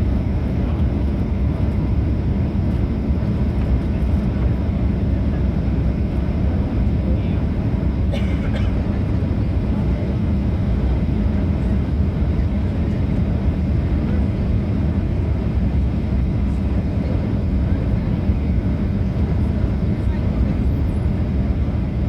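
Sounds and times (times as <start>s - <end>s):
jet engine drone in cabin: 0.0s - 22.0s.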